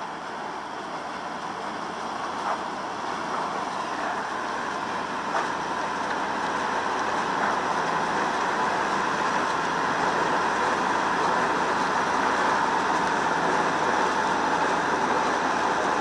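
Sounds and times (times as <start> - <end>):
harvesting machinery running: 0.0 - 16.0.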